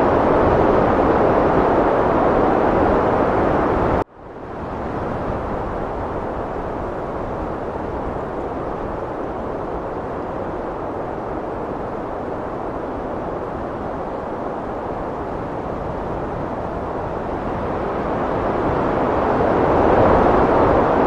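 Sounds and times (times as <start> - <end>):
strong wind rushing: 0.0 - 21.0.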